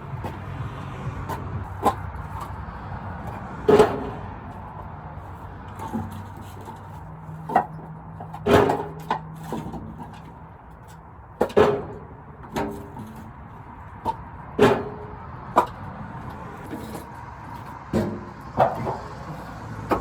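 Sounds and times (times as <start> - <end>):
wooden logs knocking together: 0.0 - 4.8, 5.6 - 13.3, 13.9 - 20.0.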